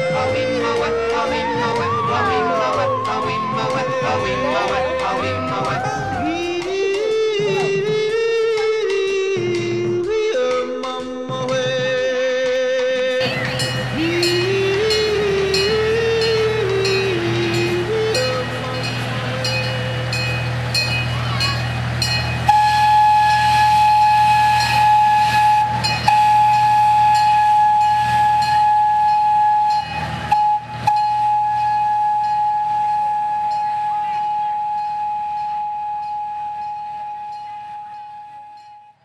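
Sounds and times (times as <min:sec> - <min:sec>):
steady high tone: 0:00.0 - 0:07.8, 0:13.2 - 0:39.0
miniature train running on track: 0:00.0 - 0:39.0.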